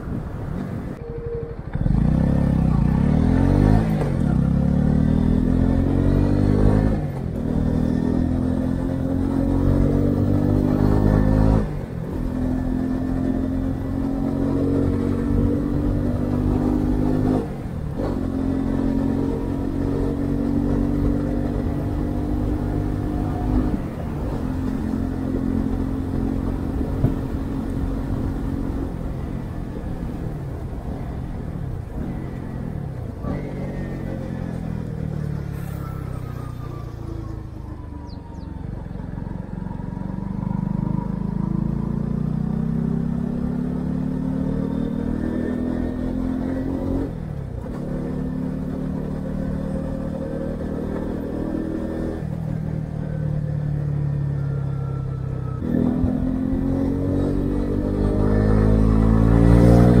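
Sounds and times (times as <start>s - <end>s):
motorcycle engine revving: 1.6s - 60.0s.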